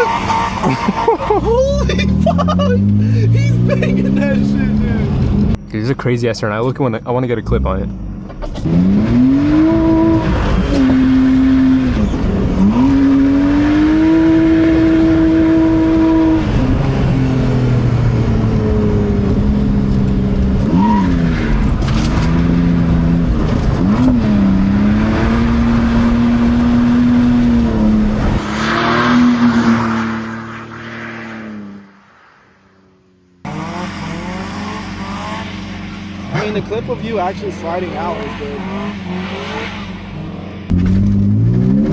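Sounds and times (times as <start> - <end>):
car engine revving hard: 0.0 - 5.6, 8.6 - 31.8, 33.4 - 41.9.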